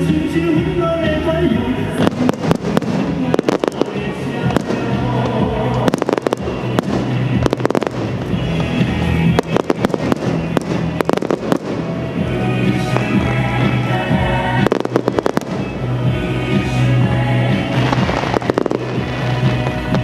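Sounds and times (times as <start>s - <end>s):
loud music: 0.0s - 20.0s
fireworks bangs and crackles: 1.8s - 20.0s.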